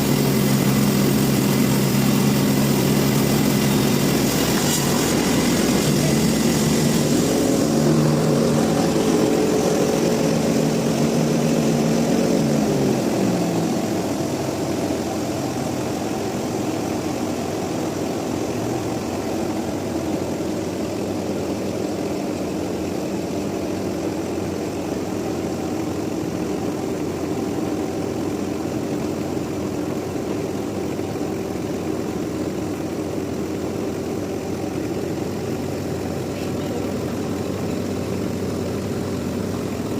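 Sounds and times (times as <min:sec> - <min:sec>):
sawmill machinery engine running: 0:00.0 - 0:39.9.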